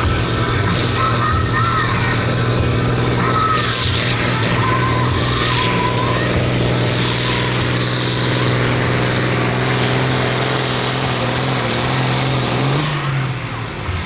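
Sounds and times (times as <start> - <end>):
tractor diesel engine running flat out: 0.0 - 14.0.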